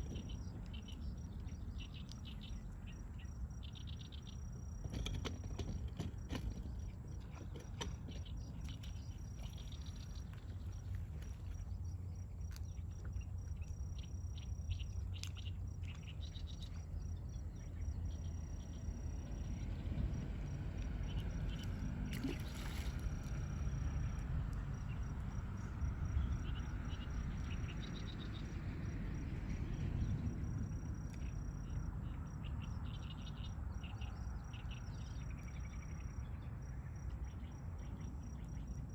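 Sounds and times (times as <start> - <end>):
constant low rumble: 0.0 - 38.9.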